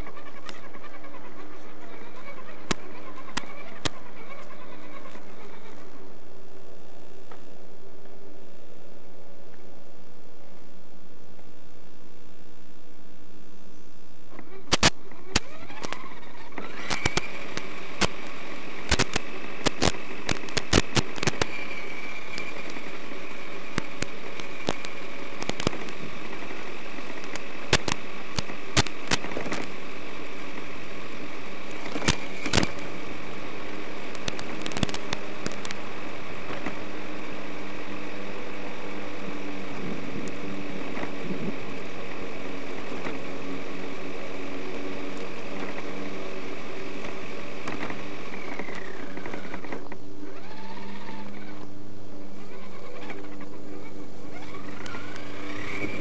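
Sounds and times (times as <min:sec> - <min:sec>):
electric motor whining: 0:00.0 - 0:10.5, 0:14.0 - 0:56.0
sharp crackles: 0:00.0 - 0:56.0.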